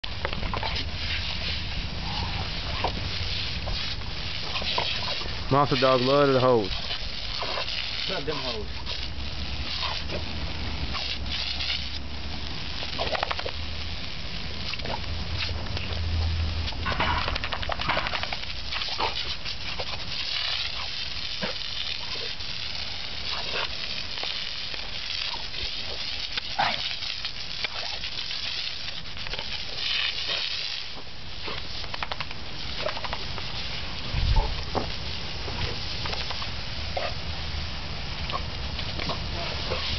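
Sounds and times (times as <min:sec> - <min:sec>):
garden hose spraying water: 0:00.0 - 0:39.9
dog throaty noises: 0:00.4 - 0:06.0, 0:06.7 - 0:11.7, 0:12.8 - 0:13.6, 0:14.6 - 0:16.0, 0:16.9 - 0:37.3, 0:38.2 - 0:39.9.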